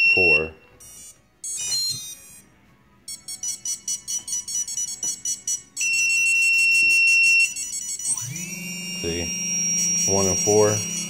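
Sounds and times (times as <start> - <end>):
motor controller beeping: 0.0 - 2.4, 3.1 - 11.0.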